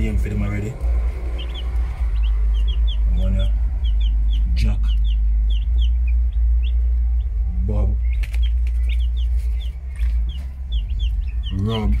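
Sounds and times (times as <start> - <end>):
chicks peeping: 0.0 - 12.0
steady low rumble: 0.0 - 12.0.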